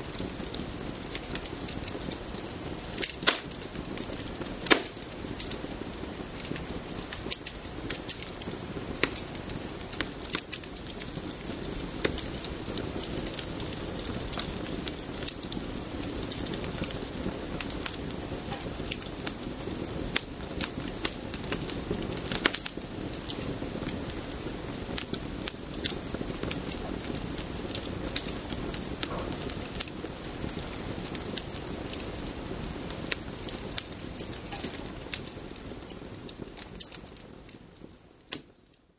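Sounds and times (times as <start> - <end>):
campfire crackling and popping: 0.0 - 38.8
low noise of flames: 0.0 - 38.9.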